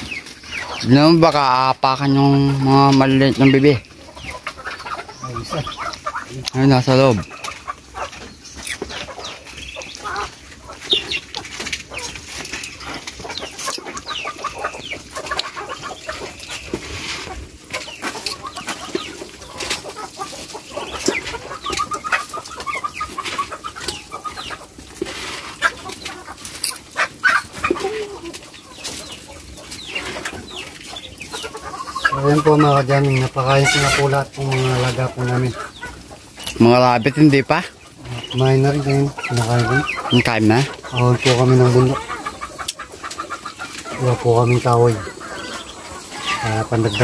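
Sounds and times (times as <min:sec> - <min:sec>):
chicks peeping: 0:00.0 - 0:47.0
poultry clucking: 0:00.0 - 0:47.0
birds pecking feed clicks: 0:04.2 - 0:46.5.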